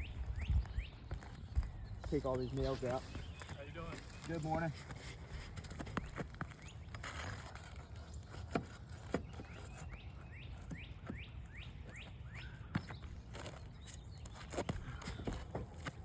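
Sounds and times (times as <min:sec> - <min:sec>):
bird chirping: 0:00.0 - 0:05.0, 0:05.6 - 0:16.0.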